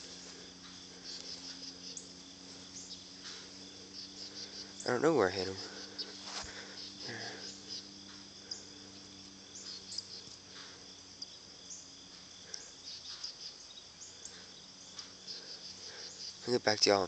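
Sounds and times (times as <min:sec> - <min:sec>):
insects chirping in grass: 0:00.0 - 0:17.0.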